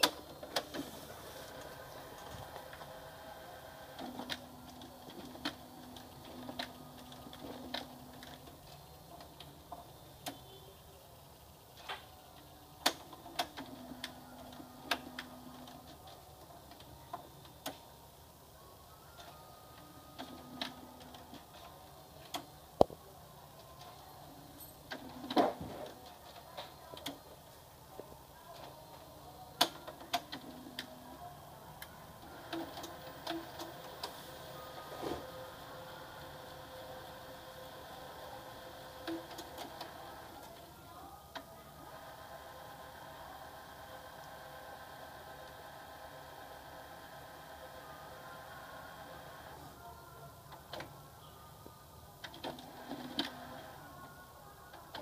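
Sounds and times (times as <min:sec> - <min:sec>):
low printer motor hums: 0:00.0 - 0:55.0.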